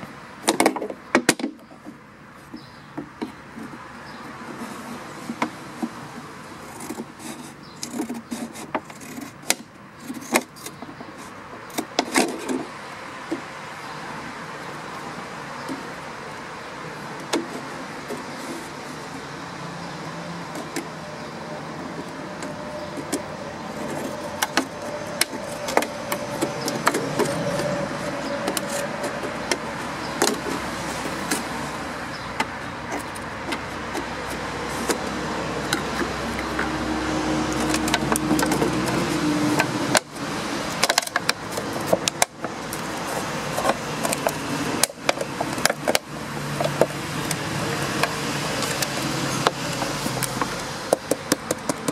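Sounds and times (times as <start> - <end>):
steady background noise: 0.0 - 51.9.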